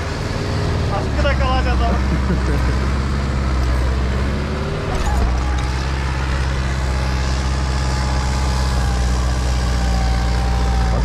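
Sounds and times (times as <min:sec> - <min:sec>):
diesel engine labouring: 0:00.0 - 0:11.0.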